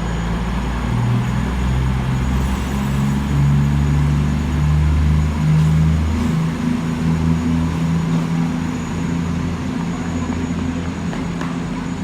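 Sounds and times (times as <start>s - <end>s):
diesel train engines droning: 0.0s - 12.0s.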